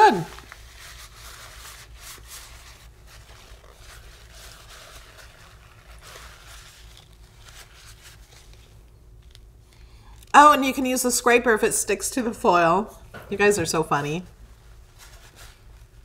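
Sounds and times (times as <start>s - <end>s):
steady low hum: 0.0s - 16.0s
faint rustling handling noises: 0.3s - 10.3s, 12.9s - 16.0s.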